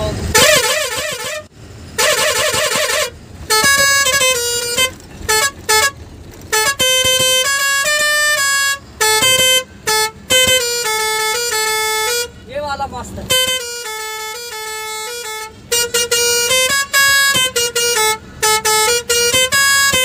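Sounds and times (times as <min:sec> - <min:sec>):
truck musical horn playing: 0:00.1 - 0:12.5, 0:13.3 - 0:20.0.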